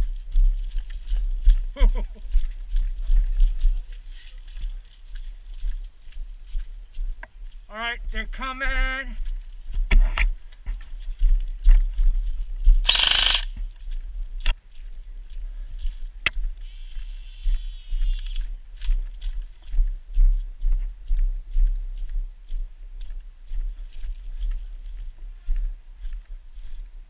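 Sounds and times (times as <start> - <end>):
footsteps on muddy ground: 0.0 - 27.0.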